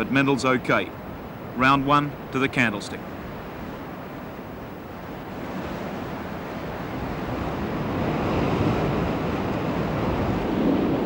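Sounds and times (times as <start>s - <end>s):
surf rushing through rock channel: 0.0s - 11.0s.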